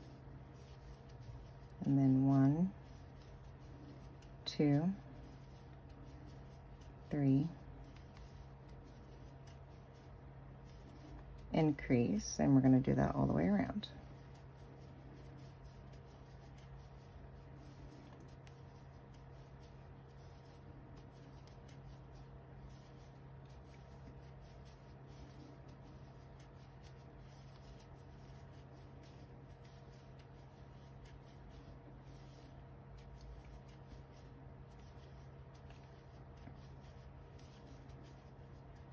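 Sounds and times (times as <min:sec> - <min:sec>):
steady low hum: 0:00.0 - 0:38.9
yarn rubbing with crochet hook: 0:00.0 - 0:38.9.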